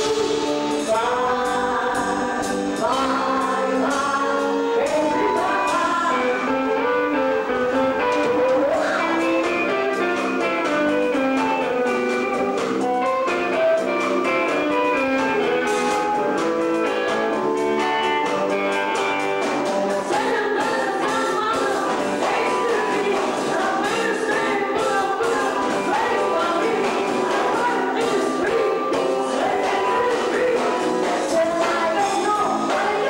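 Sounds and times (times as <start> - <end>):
bass guitar: 0.0 - 33.0
drums: 0.0 - 33.0
electric guitar: 0.0 - 33.0
person singing into microphone: 0.0 - 33.0.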